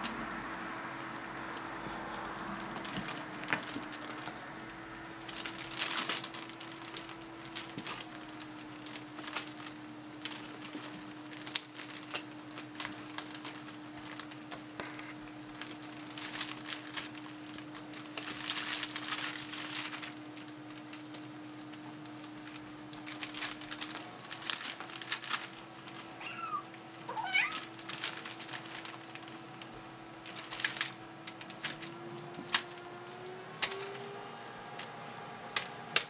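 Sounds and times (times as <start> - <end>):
faint hum: 0.0 - 36.0
plastic sheet crinkling: 0.0 - 36.0.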